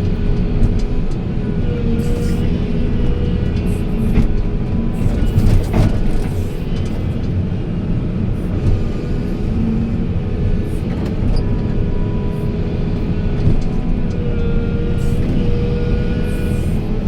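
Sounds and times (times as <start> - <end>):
diesel machinery rumbling: 0.0 - 17.0.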